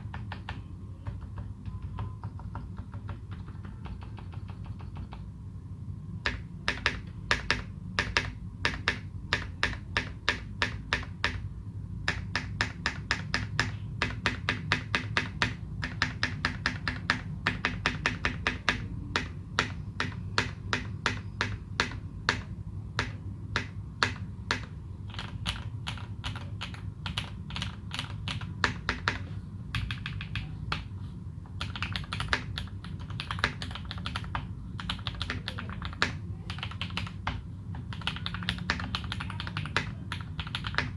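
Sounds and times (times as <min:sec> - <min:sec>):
mechanical keyboard typing: 0:00.0 - 0:05.3, 0:06.2 - 0:40.9
faint low hum: 0:00.0 - 0:40.9.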